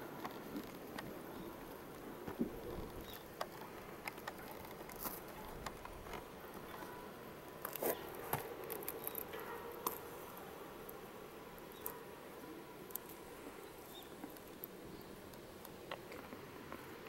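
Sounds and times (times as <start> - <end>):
cats grooming and tussling: 0.0 - 17.0.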